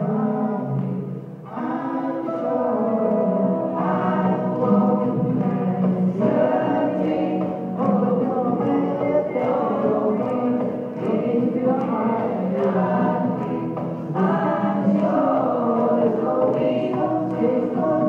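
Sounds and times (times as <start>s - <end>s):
acoustic guitar strumming: 0.0s - 18.0s
man singing into a microphone: 0.0s - 18.0s.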